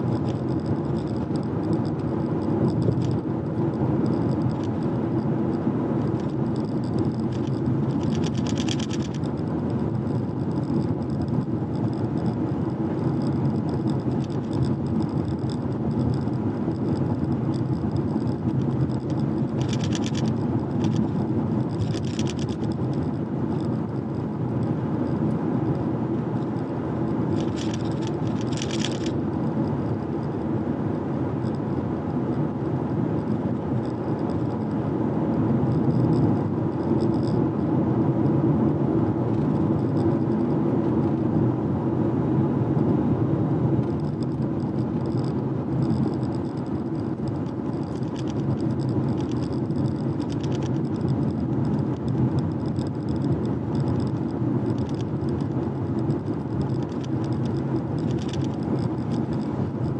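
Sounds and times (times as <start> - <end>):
tyre and road noise: 0.0 - 41.8, 42.4 - 59.9
low engine hum: 0.0 - 59.9.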